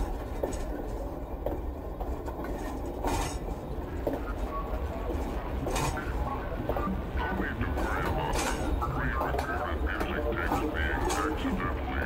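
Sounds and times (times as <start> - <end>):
train clanking: 0.0 - 12.0
train wheels rumbling on track: 0.0 - 12.0.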